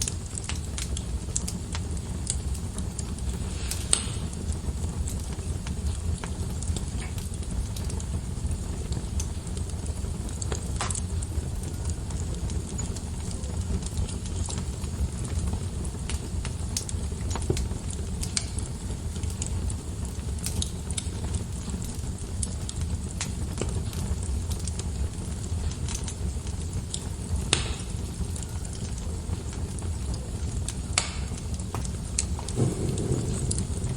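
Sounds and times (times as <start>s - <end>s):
fire crackles and pops: 0.0s - 33.9s
fire rumbling in fireplace: 0.0s - 33.9s.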